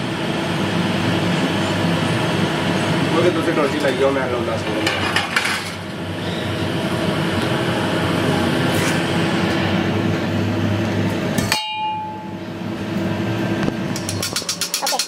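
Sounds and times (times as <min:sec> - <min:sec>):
workshop machinery hum: 0:00.0 - 0:15.0.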